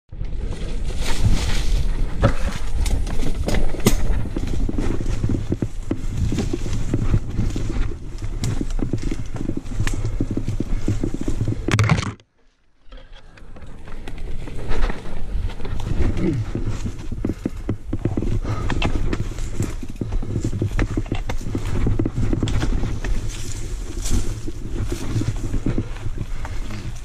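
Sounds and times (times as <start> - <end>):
bike rumbling over dirt trail: 0.1 - 27.0
bike knocks and rattles: 0.2 - 12.2, 13.4 - 27.0.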